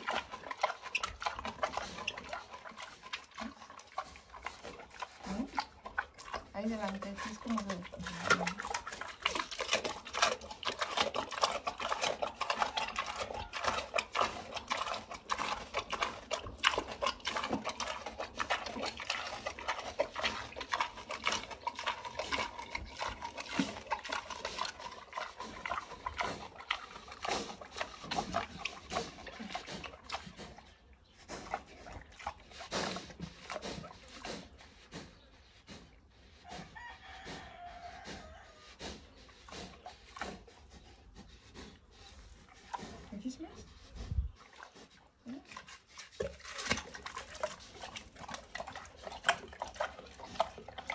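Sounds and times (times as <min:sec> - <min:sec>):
pig chewing watermelon: 0:00.0 - 0:50.9.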